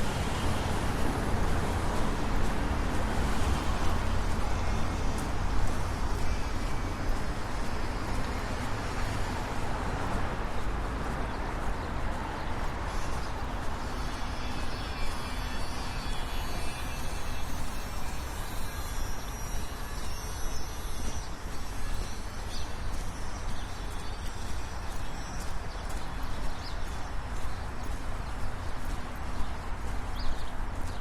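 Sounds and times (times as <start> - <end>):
footsteps on sidewalk: 0.0 - 31.0
low traffic rumble: 0.0 - 31.0.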